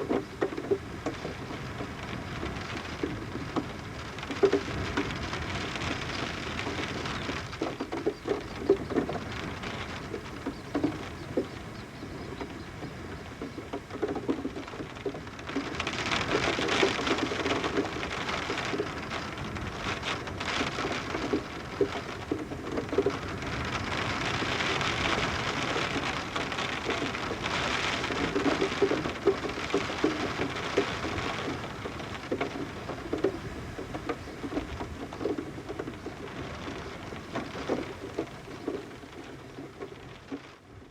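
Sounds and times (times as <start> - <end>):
rain pattering on a window: 0.0 - 40.9
water dripping off roof: 0.0 - 40.9.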